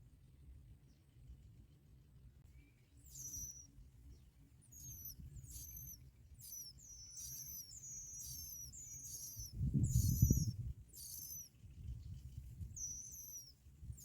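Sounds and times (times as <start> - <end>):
high thin bird chirps: 2.5 - 14.0.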